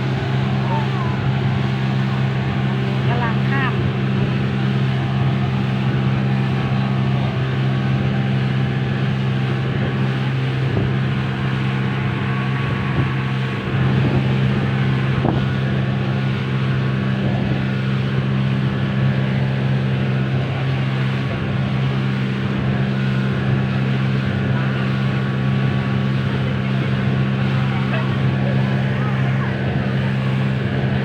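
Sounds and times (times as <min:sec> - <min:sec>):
boat engine humming: 0:00.0 - 0:31.0
rush of wind and water: 0:00.0 - 0:31.0.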